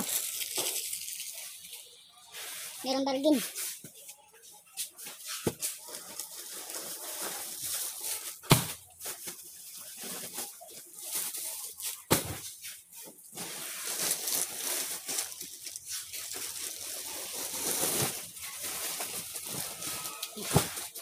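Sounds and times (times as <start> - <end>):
plastic sacks rustling: 0.0 - 21.0.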